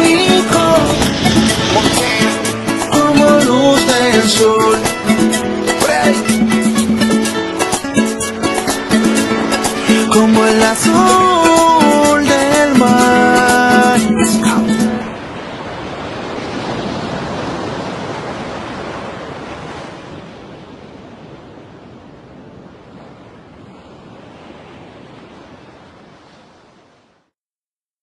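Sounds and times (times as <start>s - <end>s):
ocean surf rushing: 0.0s - 27.3s.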